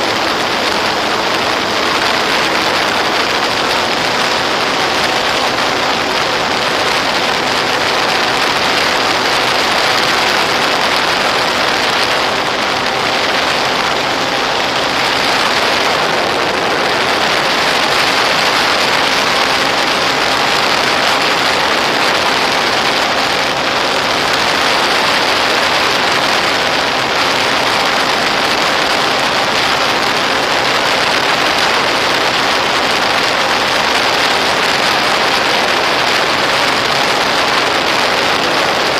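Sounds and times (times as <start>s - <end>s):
loud rushing hiss: 0.0s - 38.9s.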